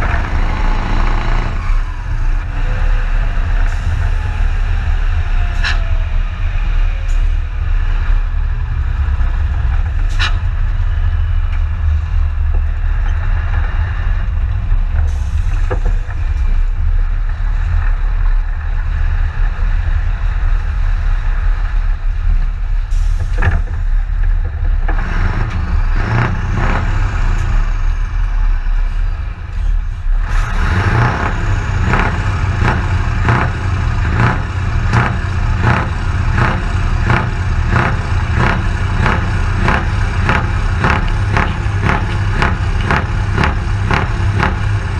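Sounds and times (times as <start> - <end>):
diesel truck engine rumbling: 0.0 - 44.9.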